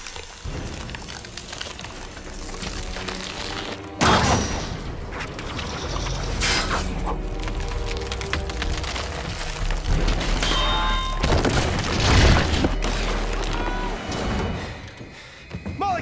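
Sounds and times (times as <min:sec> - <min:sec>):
steel creaking and cracking: 0:00.0 - 0:15.1.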